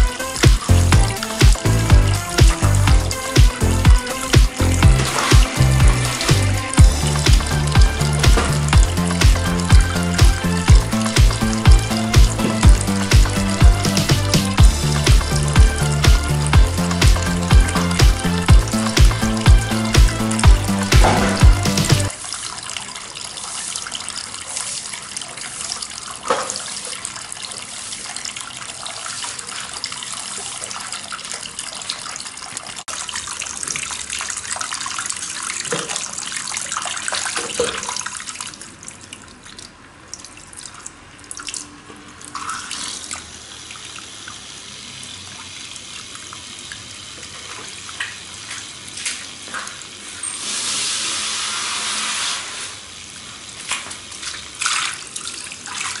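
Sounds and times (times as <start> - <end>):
fountain water splashing and trickling: 0.0 - 56.0.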